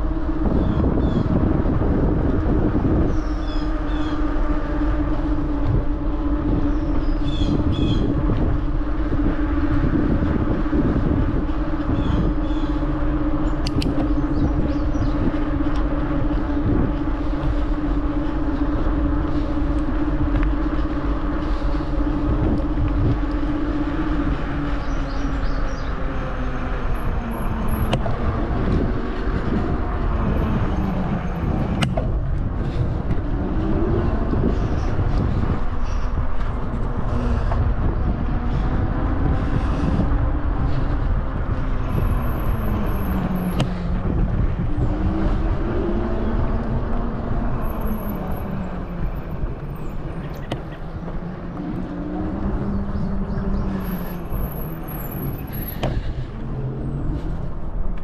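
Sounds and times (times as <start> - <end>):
low motor-like hum: 0.0 - 58.0.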